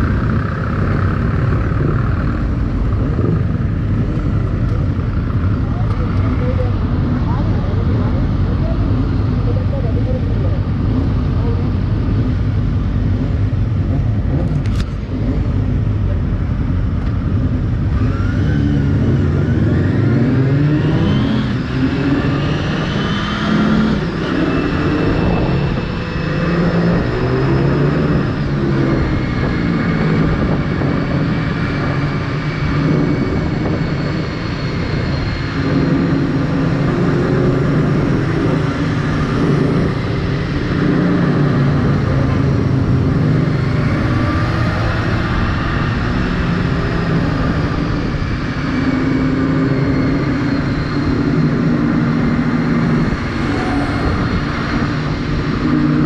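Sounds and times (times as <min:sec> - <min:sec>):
motorcycle engine accelerating: 0:00.0 - 0:56.0
road and wind rush: 0:00.0 - 0:56.0.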